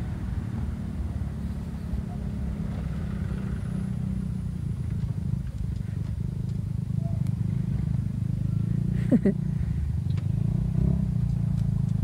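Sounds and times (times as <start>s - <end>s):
motorcycle engine cruising: 0.0s - 12.0s
wind and road rumble: 0.0s - 12.0s.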